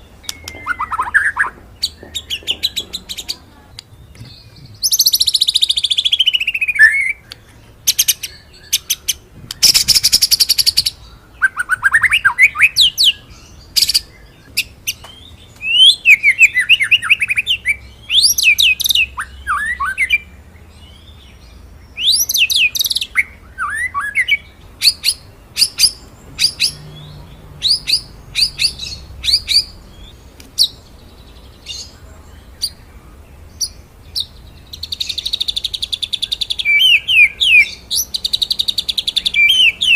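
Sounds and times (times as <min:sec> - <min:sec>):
songbird singing whistles and trills: 0:00.0 - 0:03.4, 0:04.0 - 0:32.9, 0:33.6 - 0:39.9.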